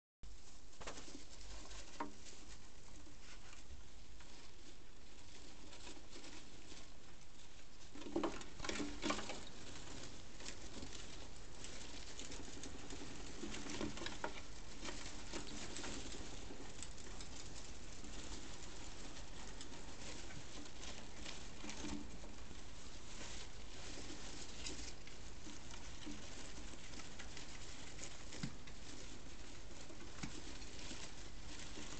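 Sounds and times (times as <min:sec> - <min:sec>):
gerbils scrabbling in wood shavings: 0:00.3 - 0:31.9.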